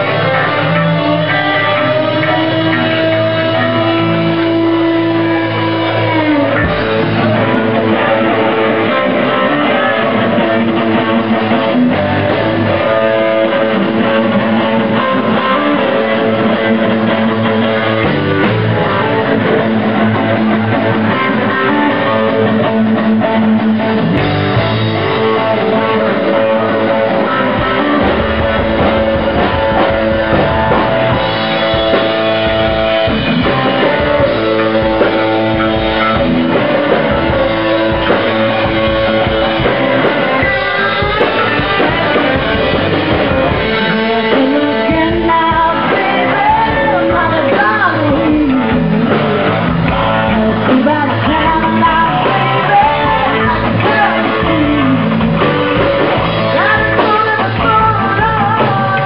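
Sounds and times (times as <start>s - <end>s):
drum kit: 0.0s - 59.0s
electric guitars: 0.0s - 59.0s.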